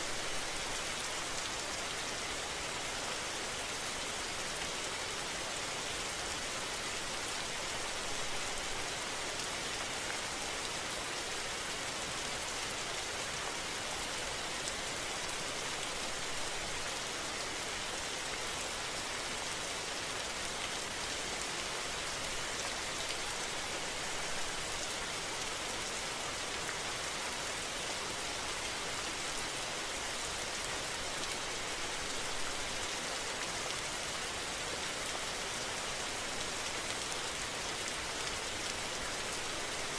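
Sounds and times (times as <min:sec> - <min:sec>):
steady rain-like hiss: 0:00.0 - 0:39.9.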